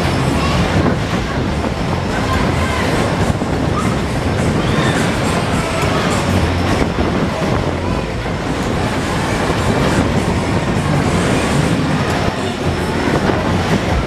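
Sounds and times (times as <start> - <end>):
ride wheels rumbling on rails: 0.0 - 14.0.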